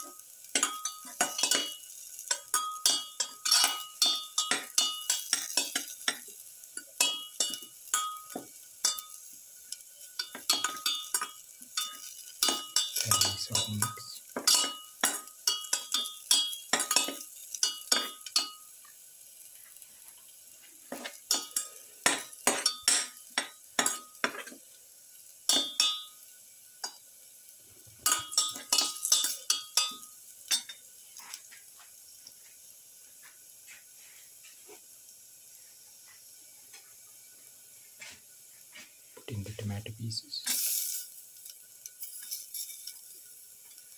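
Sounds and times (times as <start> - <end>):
faint sizzle: 0.0 - 43.9.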